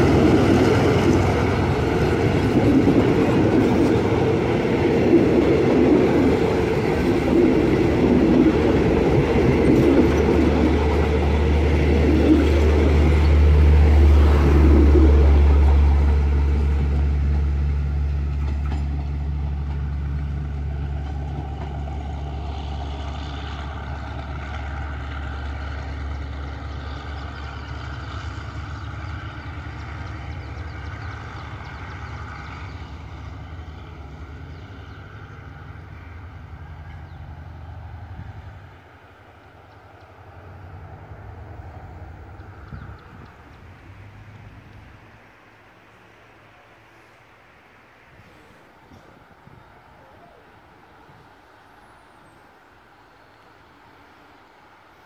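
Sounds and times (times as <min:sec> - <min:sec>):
passenger train rolling on rails: 0:00.0 - 0:55.0.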